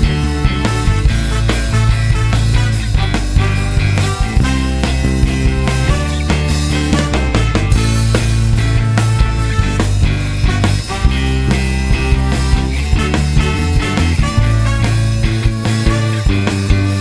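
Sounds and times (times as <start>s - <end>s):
bass: 0.0s - 17.0s
rock music: 0.0s - 17.0s
steady drum beat: 0.0s - 17.0s.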